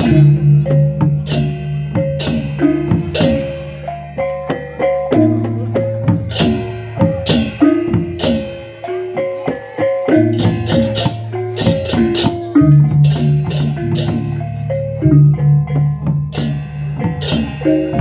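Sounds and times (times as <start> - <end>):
crashing hand cymbals: 0.0 - 18.0
drums: 0.0 - 18.0
gong-chime notes: 0.0 - 18.0.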